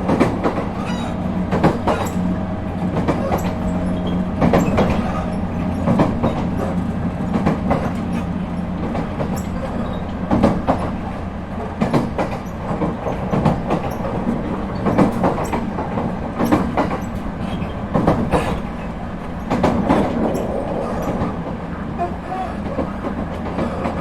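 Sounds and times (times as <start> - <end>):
wheels clacking over rail joints: 0.0 - 20.8
train interior rumble: 0.0 - 24.0.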